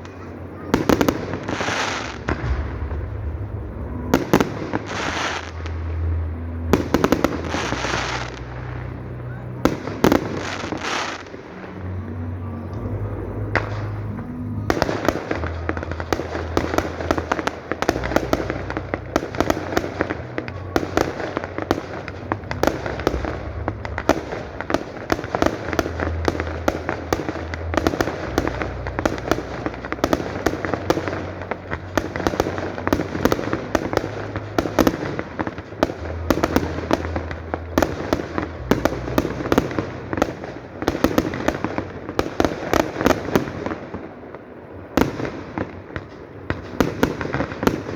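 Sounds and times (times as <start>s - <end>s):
fireworks cracks and bangs: 0.0s - 47.9s.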